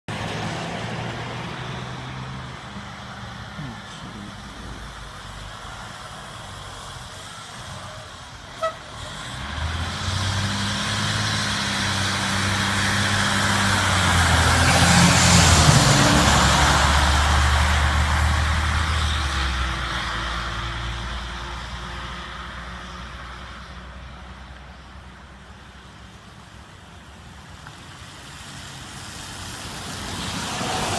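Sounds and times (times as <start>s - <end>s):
fire truck driving past: 0.1s - 30.9s.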